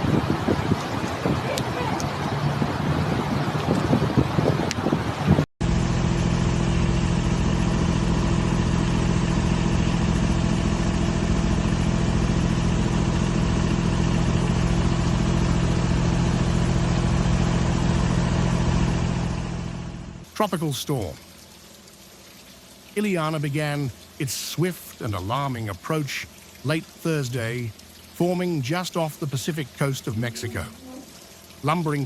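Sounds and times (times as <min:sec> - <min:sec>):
engine drone: 0:00.0 - 0:32.0.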